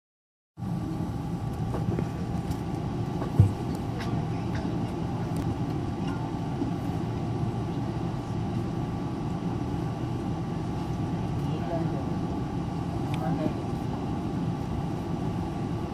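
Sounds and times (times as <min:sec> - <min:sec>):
aircraft cabin rumble: 0:00.6 - 0:15.9
faint engine whine: 0:00.6 - 0:15.9.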